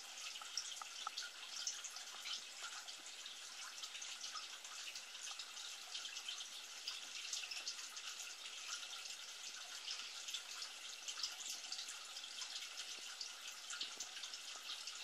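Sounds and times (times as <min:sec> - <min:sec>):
trickle of running water: 0:00.0 - 0:15.0.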